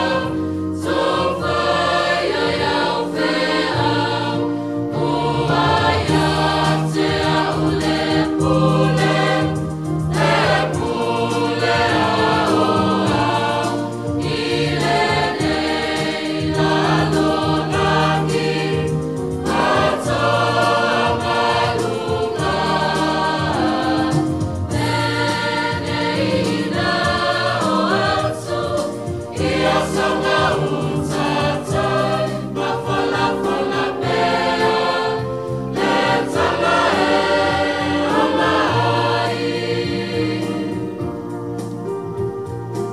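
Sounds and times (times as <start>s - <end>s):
choir singing a hymn in harmony: 0.0s - 42.6s.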